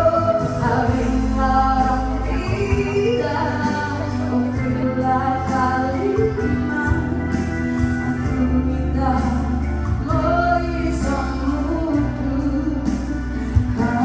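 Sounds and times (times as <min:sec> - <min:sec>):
instrumental accompaniment with bass: 0:00.0 - 0:14.0
woman singing into a microphone: 0:00.0 - 0:14.0.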